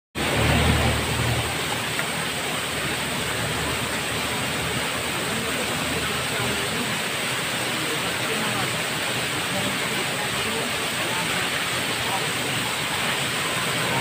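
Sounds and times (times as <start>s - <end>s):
waterfall splashing into pool: 0.2s - 14.0s.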